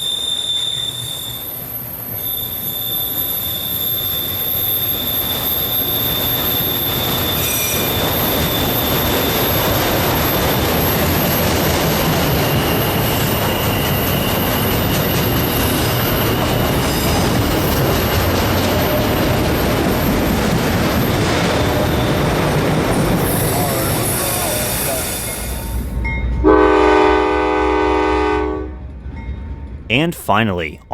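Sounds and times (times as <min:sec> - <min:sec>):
steel wheels squealing on rails: 0:00.0 - 0:26.4.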